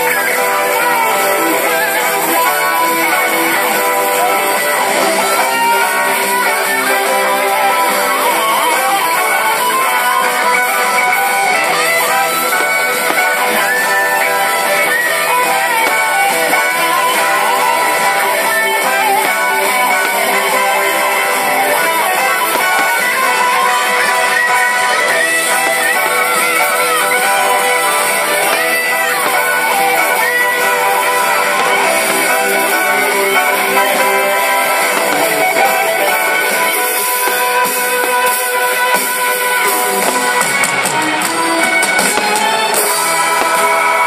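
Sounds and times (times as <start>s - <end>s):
guitar rock music: 0.0s - 44.0s.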